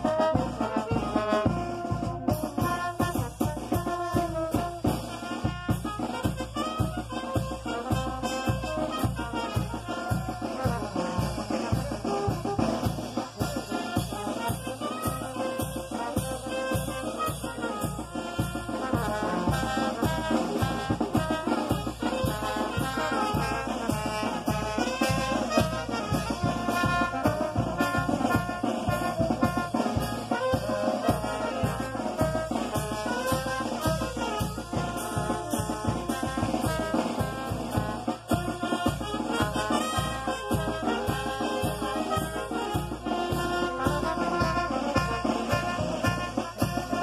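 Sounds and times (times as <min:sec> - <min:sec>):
brass band playing: 0:00.0 - 0:47.0.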